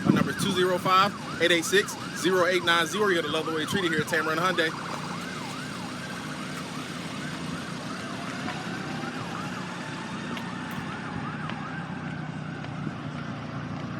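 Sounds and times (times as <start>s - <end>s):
siren yelping: 0.0s - 13.8s.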